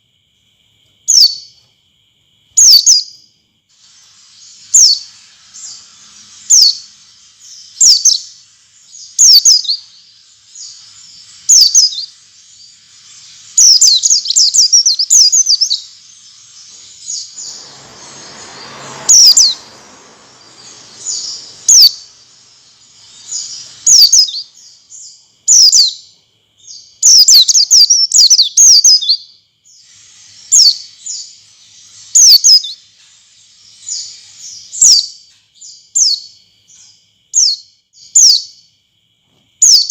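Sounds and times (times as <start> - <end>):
bird chirping: 0.4 - 1.7, 2.3 - 38.8, 39.6 - 39.9.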